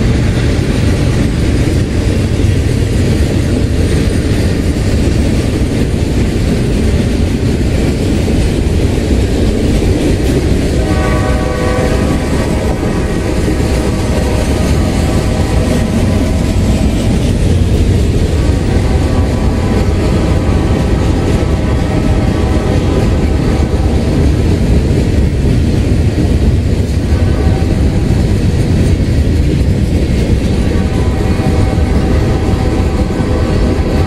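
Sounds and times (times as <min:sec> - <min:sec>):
freight train cars rumbling past: 0:00.0 - 0:34.0.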